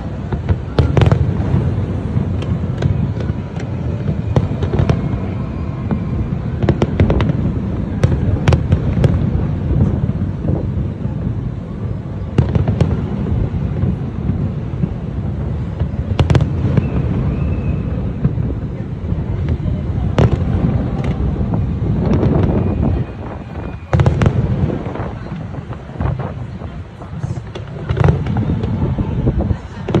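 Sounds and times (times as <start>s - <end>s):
fireworks exploding: 0.0s - 30.0s.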